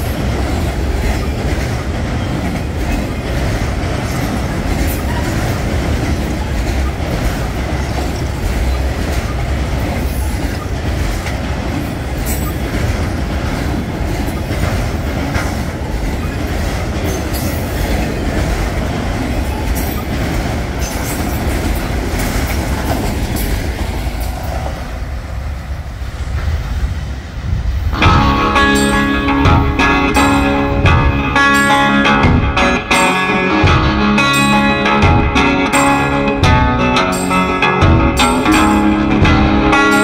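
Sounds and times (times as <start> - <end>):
wheels clacking over rail joints: 0.0 - 25.6, 27.8 - 40.0
freight train rumbling: 0.0 - 40.0.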